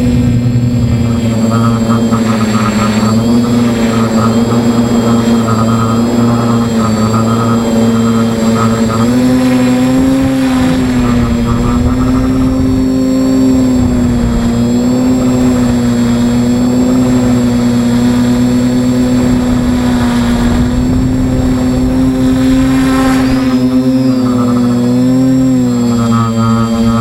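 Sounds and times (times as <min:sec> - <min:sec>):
drone motors buzzing: 0:00.0 - 0:27.0
wind rumble: 0:00.0 - 0:27.0.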